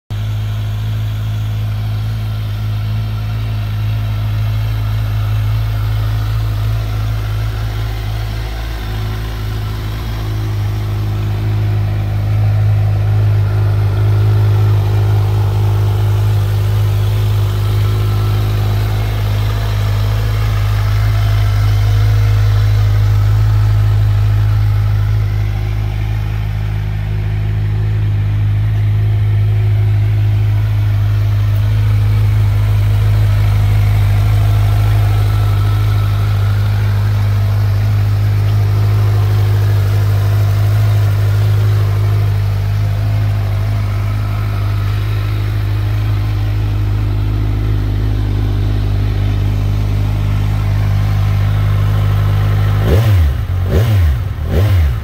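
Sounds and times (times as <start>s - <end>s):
motorcycle engine idling: 0.1s - 55.0s.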